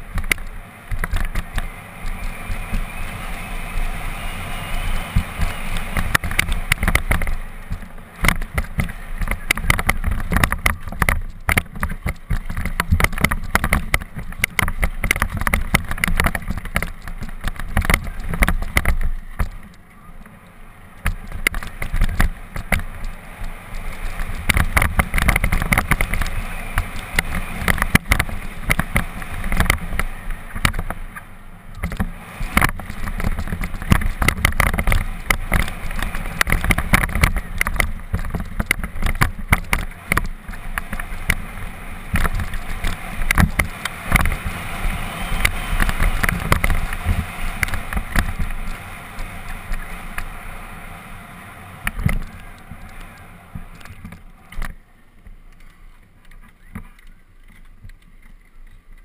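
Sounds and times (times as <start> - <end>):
wind rumble on microphone: 0.0 - 20.3, 20.9 - 59.0
bike rattling over stones: 0.0 - 59.0
tyres on loose dirt: 0.0 - 59.0.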